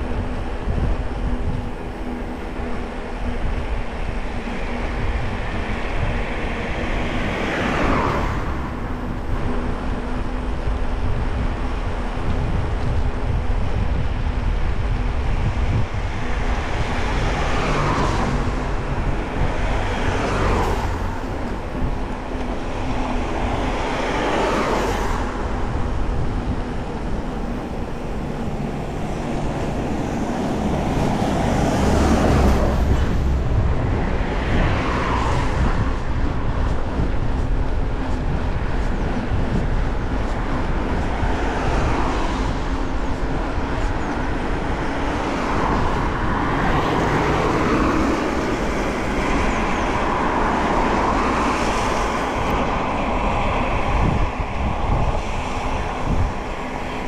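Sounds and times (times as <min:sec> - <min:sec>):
wind buffeting microphone: 0:00.0 - 0:57.0
vehicles whooshing past: 0:04.4 - 0:10.6, 0:15.4 - 0:57.0.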